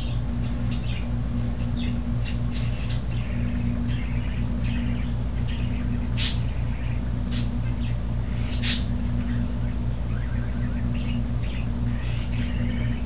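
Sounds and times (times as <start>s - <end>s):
fan blades low drone: 0.0s - 13.0s.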